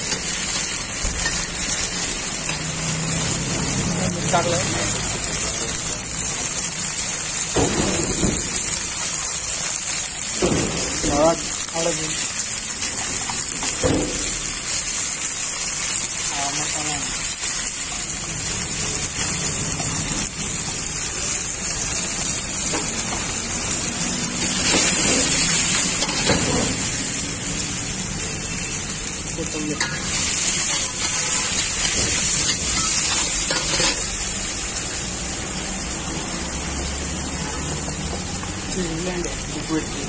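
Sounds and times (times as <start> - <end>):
paste sizzling in hot oil: 0.0 - 40.0.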